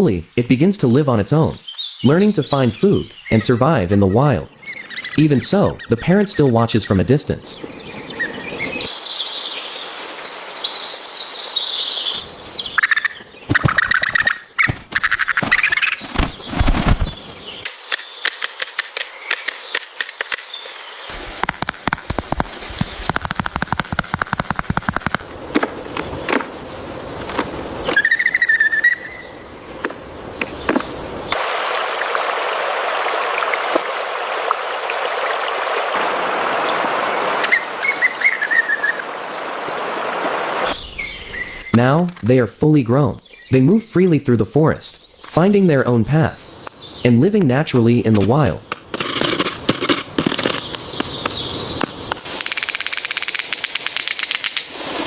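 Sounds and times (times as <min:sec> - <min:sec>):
birds chirping and calling: 0:00.0 - 0:21.2, 0:24.9 - 0:39.5, 0:40.6 - 0:49.4, 0:50.1 - 0:55.0.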